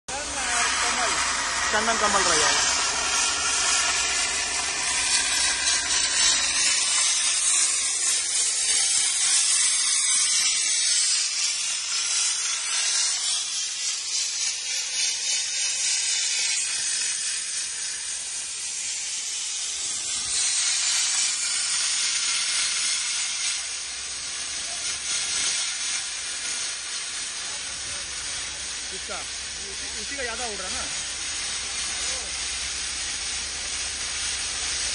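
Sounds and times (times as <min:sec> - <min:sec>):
abrasive grit blasting hiss: 0:00.1 - 0:34.9.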